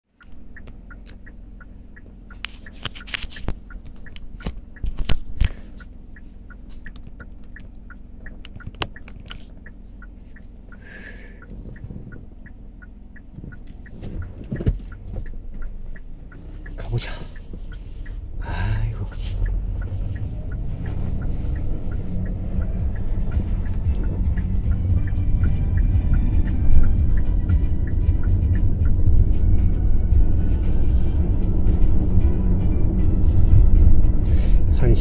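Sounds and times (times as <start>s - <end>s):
light engine ticking: 0.1s - 33.0s
car engine idling: 0.1s - 35.0s.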